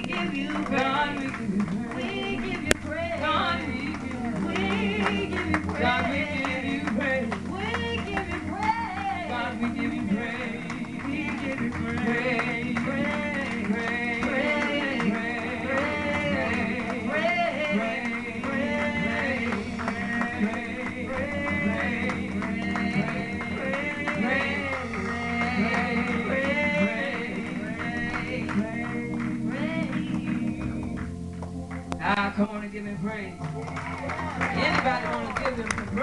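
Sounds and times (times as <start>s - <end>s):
person singing: 0.0s - 31.0s
band accompaniment: 0.0s - 36.0s.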